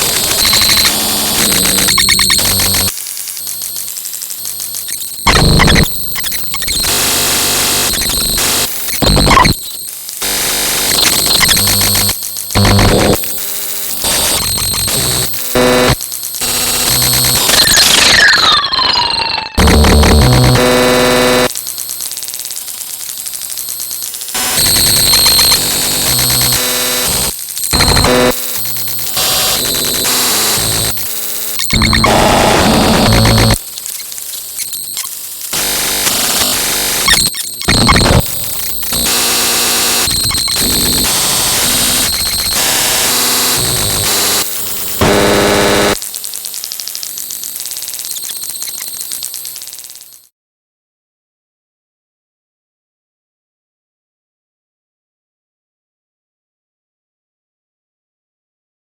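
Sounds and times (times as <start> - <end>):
steady electronic tones: 0.0 - 22.4, 23.5 - 50.2
harsh electronic static and buzzing: 0.0 - 50.3.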